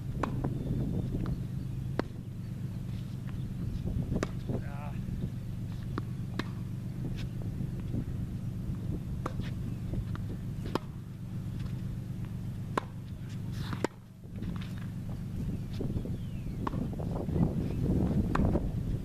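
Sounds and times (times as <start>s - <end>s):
steady low rumble: 0.0s - 19.0s
tennis balls struck and bouncing: 0.0s - 19.0s.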